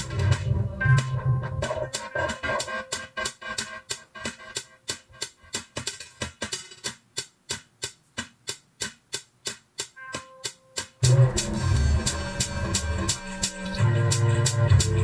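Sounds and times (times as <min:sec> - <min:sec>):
percussive beat of sharp hits: 0:00.0 - 0:15.0.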